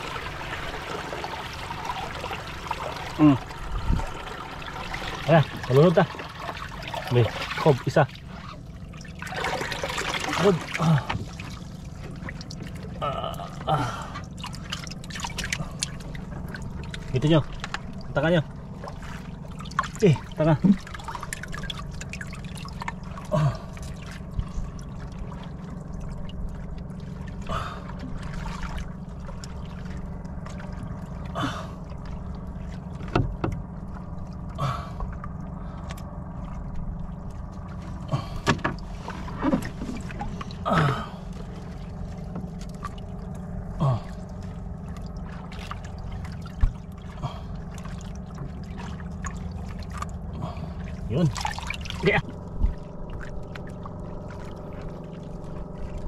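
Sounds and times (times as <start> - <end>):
fish splashing in water: 0.0 - 13.0, 14.0 - 56.0
steady low rumble: 0.0 - 56.0.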